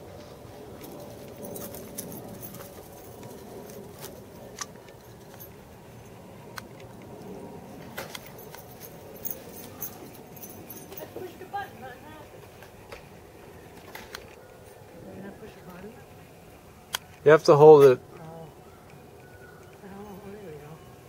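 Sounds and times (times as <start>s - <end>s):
low steady background noise: 0.0s - 21.0s.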